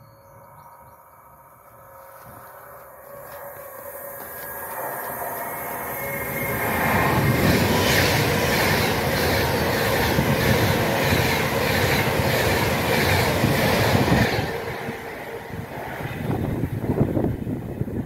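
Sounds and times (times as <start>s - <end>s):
electric train passing at speed: 0.0s - 18.0s.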